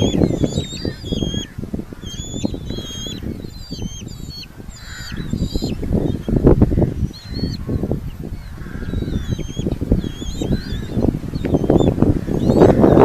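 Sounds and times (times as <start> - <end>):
falcons calling: 0.0 - 13.0.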